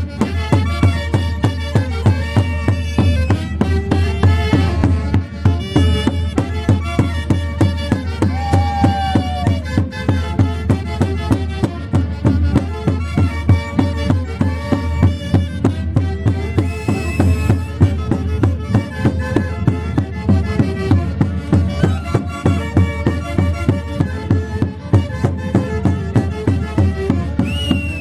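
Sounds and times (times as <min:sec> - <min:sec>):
steady drum beat: 0:00.1 - 0:28.0.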